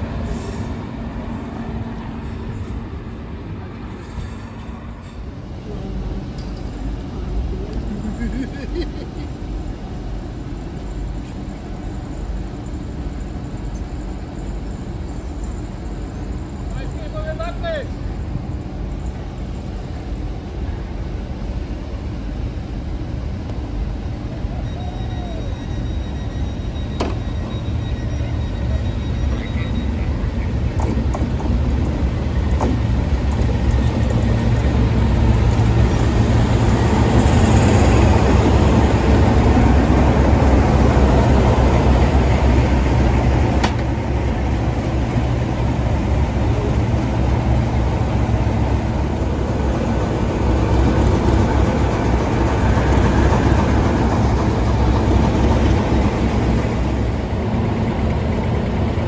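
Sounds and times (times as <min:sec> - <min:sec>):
diesel locomotive engines rumbling: 0:00.0 - 0:59.0.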